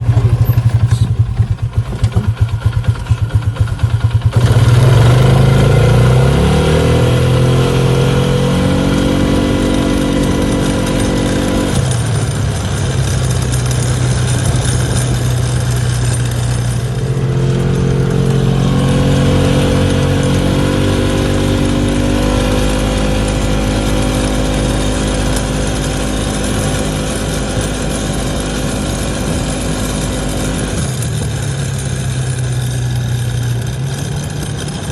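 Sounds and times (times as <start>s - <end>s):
engine rattle: 0.0s - 34.9s
utility vehicle engine: 0.0s - 34.9s.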